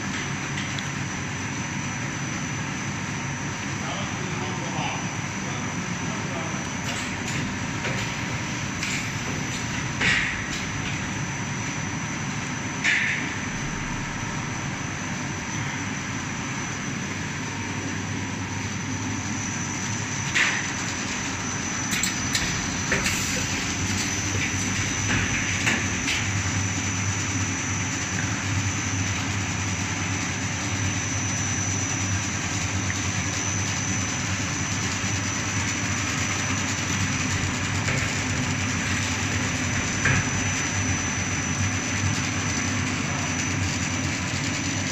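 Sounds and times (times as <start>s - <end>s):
machinery hum and whine: 0.0s - 44.9s.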